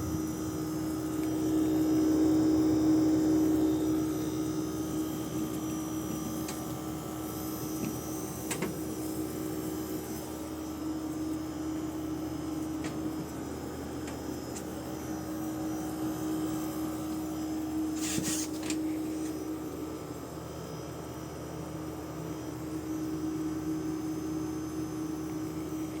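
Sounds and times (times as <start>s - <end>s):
air conditioner unit humming: 0.0s - 26.0s.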